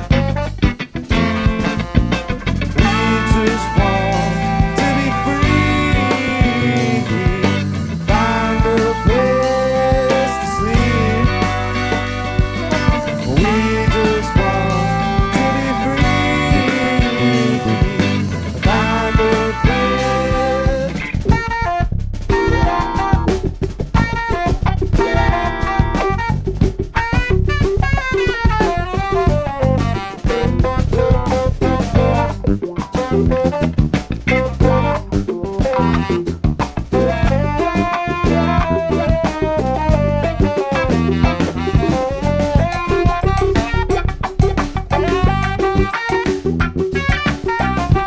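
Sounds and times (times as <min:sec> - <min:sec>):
bass guitar: 0:00.0 - 0:48.0
drum kit beat: 0:00.0 - 0:48.0
guitar: 0:00.0 - 0:48.0
saxophone and trumpet horn line: 0:00.0 - 0:48.0.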